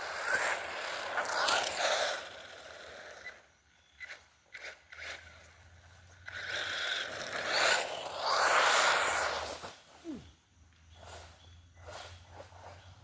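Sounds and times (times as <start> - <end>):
rc car tyres scraping ground: 0.0 - 10.0, 10.9 - 13.0.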